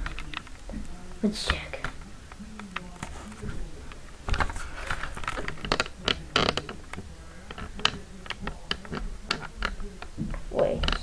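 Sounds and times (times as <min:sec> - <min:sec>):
objects being handled: 0:00.0 - 0:11.0.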